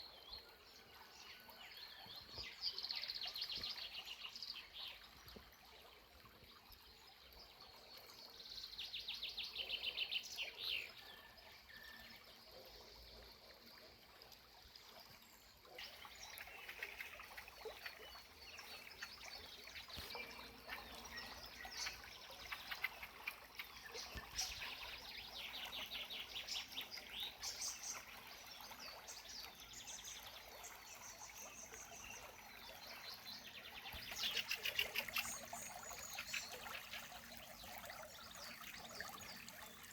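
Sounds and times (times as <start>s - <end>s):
trickle of a small spring: 0.0s - 39.9s.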